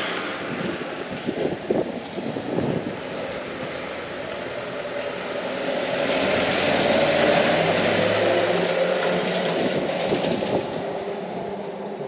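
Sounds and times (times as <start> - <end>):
heavy vehicle engine passing: 0.0 - 12.0.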